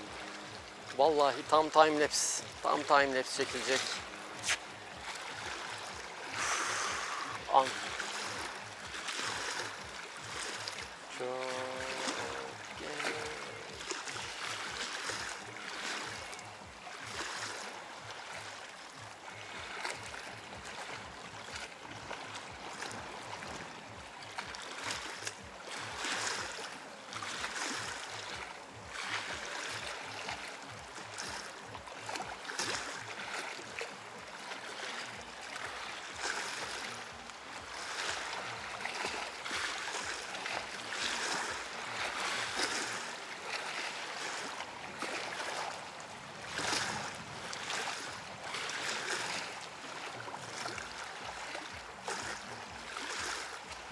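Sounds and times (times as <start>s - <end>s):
small waves washing onto beach: 0.0s - 53.9s.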